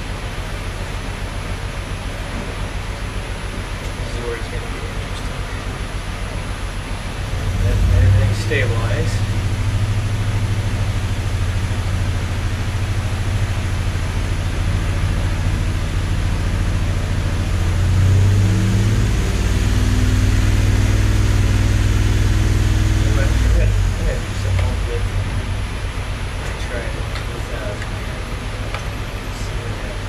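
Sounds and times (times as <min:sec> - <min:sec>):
engine running on a dyno: 0:00.0 - 0:30.0.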